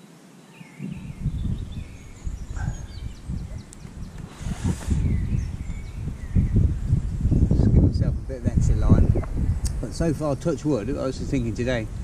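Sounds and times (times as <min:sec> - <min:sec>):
small birds chirping: 0:00.0 - 0:12.0
wind buffeting microphone: 0:00.7 - 0:12.0.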